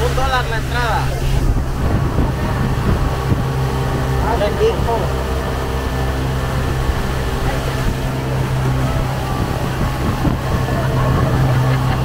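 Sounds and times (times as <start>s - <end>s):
boat motor droning: 0.0s - 12.0s
water rushing past hull: 0.0s - 12.0s.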